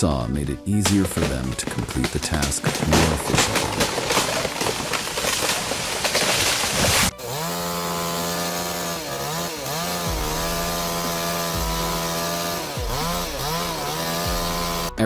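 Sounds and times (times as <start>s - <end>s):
chainsaw engine at high revs: 1.1s - 15.0s.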